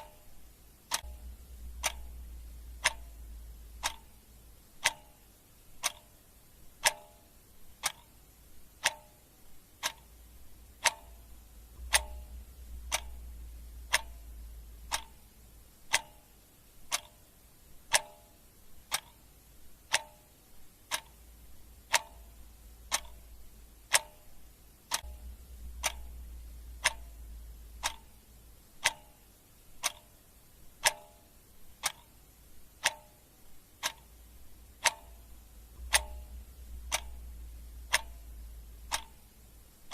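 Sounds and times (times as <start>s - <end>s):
clock ticking: 0.0s - 39.9s
faint low rumble: 0.0s - 39.9s.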